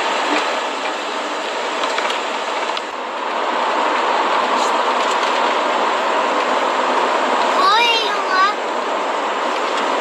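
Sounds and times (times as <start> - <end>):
road and engine noise in cabin: 0.0 - 10.0.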